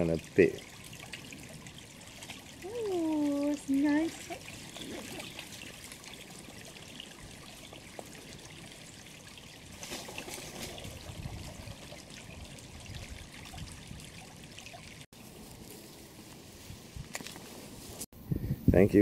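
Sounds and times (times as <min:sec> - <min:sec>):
river water trickling: 0:00.0 - 0:16.4.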